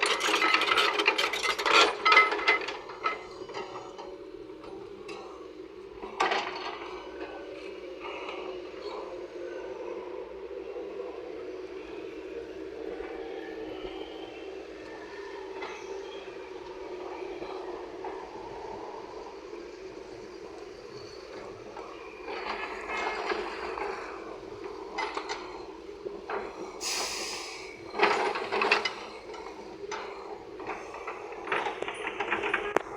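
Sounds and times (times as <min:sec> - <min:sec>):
excavator running: 0:00.0 - 0:32.9.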